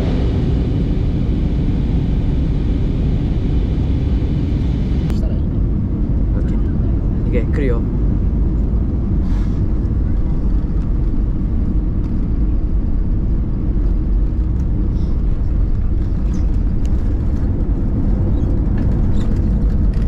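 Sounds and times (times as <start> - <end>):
vehicle rumble from inside: 0.0 - 20.0.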